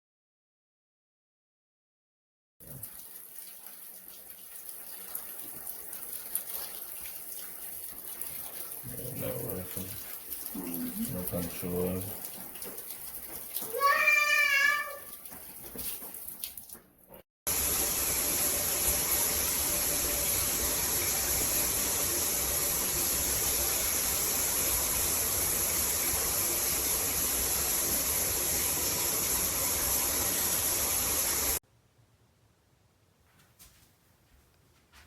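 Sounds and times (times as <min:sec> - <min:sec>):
shower water spray: 0:02.6 - 0:16.8, 0:17.5 - 0:31.6.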